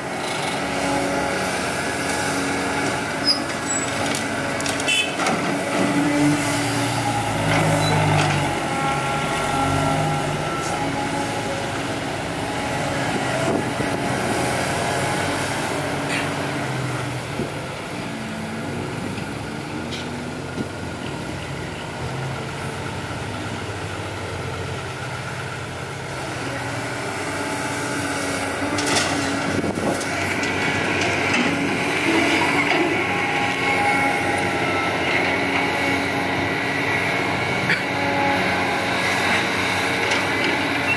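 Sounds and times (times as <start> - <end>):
dump truck diesel engines: 0.0 - 40.9
excavator diesel engine under load: 0.0 - 40.9.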